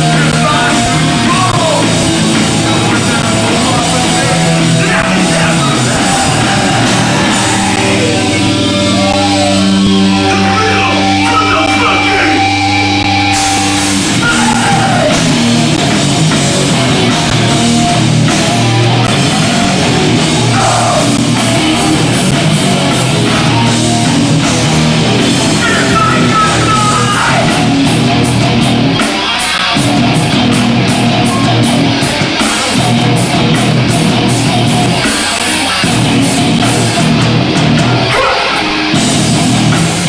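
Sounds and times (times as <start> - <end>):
punk band playing live: 0.0 - 40.0.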